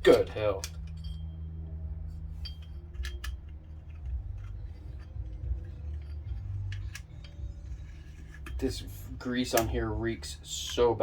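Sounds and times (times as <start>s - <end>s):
low steady hum: 0.0s - 11.0s
metal parts clicking and scraping: 0.0s - 11.0s.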